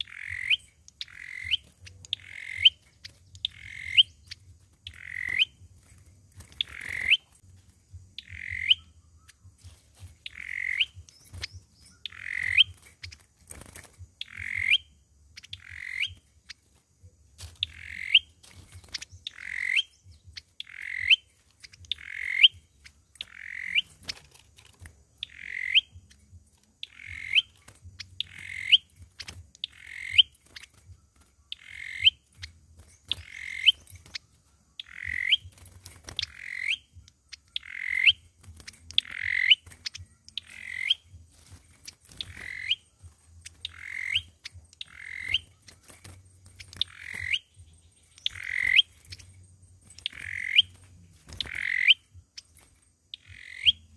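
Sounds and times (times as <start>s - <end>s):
bird calling: 0.0s - 53.9s.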